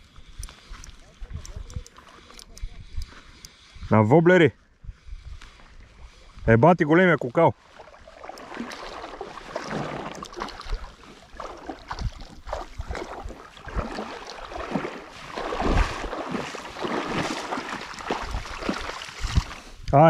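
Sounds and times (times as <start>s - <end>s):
water splashing and sloshing: 0.0s - 3.8s, 5.2s - 20.0s.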